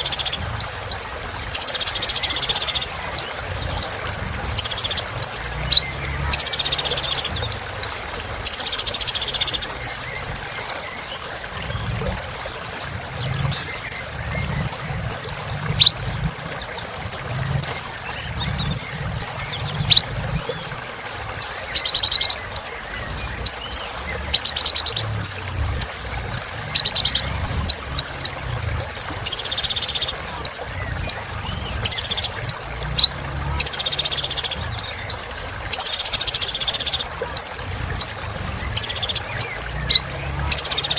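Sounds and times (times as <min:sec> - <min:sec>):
sunbird chirping and trilling: 0:00.0 - 0:40.9.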